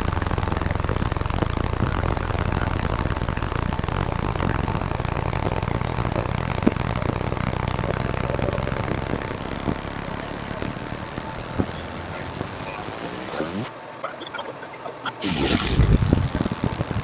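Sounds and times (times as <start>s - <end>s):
laser machine humming: 0.0s - 13.7s, 15.2s - 17.0s
sharp clicks: 0.0s - 13.7s, 15.2s - 17.0s.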